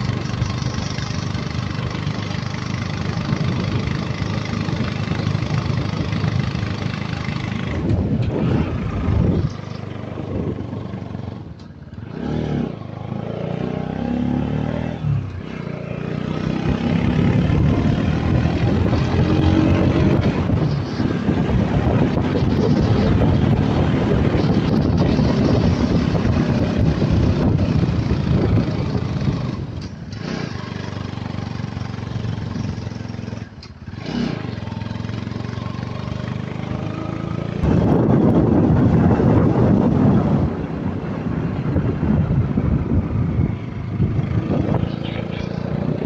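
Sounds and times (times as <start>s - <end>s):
wind rush on microphone: 0.0s - 12.8s, 16.3s - 30.6s, 31.8s - 46.0s
motorcycle engine running: 0.0s - 14.2s, 15.2s - 46.0s.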